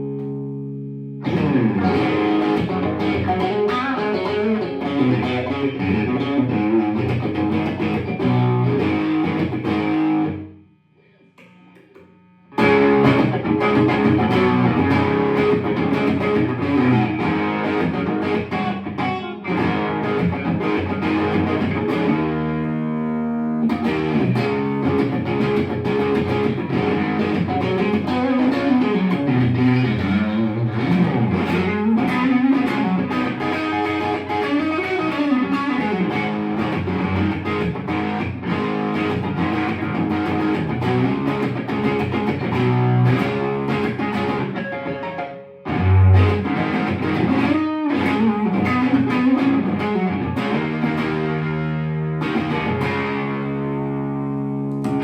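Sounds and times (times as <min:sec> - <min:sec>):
electric guitar playing: 0:00.0 - 0:55.0.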